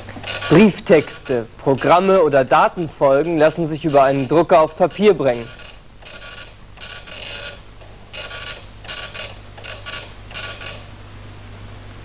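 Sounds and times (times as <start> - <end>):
dot matrix printer head buzzing: 0.0 - 11.1
low steady hum: 0.0 - 12.0.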